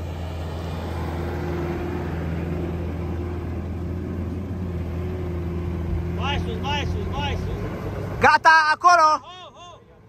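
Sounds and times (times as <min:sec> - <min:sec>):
suv engine humming at low revs: 0:00.0 - 0:10.0.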